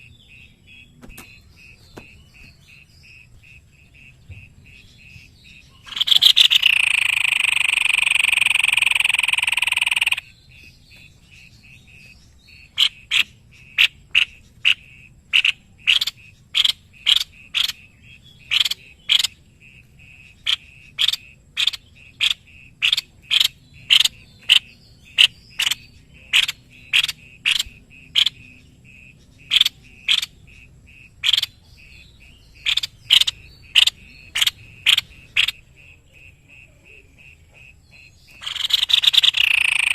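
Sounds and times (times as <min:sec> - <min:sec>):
loud steady buzzing animal call: 0:00.0 - 0:39.9.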